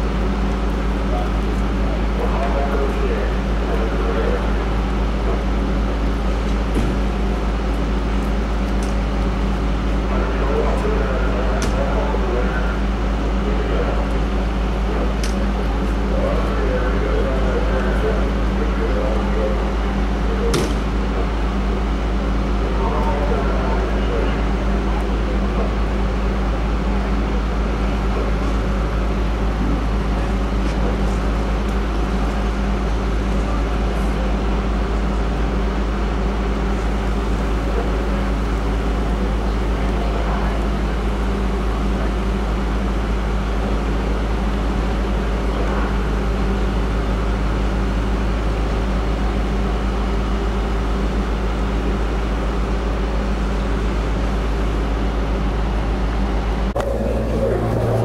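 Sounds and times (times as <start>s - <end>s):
fire engine pumps droning: 0.0s - 58.0s.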